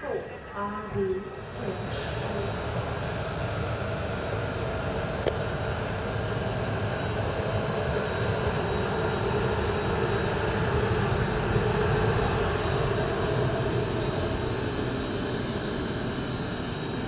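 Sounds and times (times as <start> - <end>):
train droning: 0.0 - 17.0.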